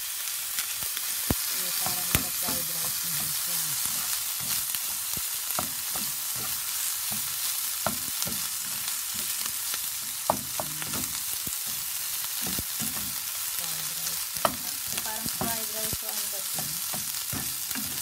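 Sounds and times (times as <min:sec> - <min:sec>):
food sizzling in a frying pan: 0:00.0 - 0:18.0
spatula scraping and tapping pan: 0:01.7 - 0:18.0.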